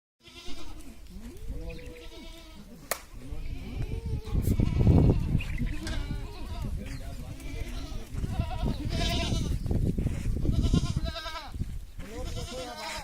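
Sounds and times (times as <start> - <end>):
goats bleating: 0.2 - 9.7, 10.4 - 13.0.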